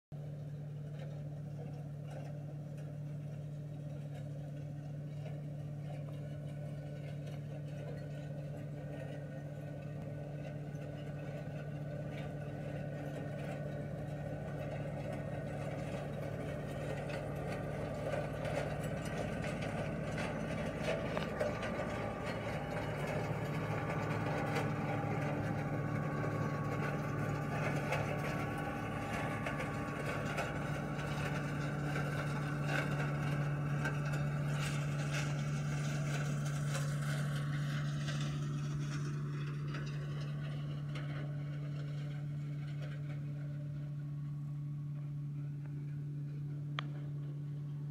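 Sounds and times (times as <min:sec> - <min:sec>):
tractor diesel engine running: 0:00.2 - 0:47.9.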